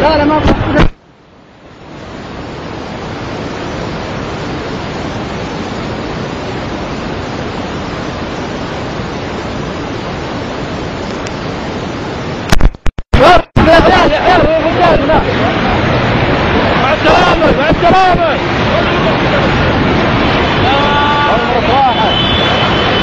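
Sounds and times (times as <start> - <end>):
flash flood torrent rushing: 0.0 - 23.0.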